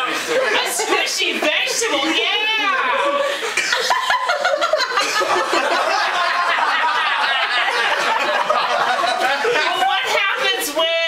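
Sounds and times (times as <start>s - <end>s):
people laughing: 0.0s - 11.0s.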